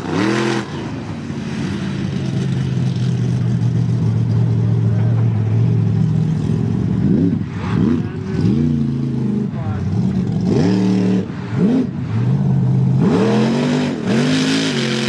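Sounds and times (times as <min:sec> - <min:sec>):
utv engine running and revving: 0:00.0 - 0:15.0.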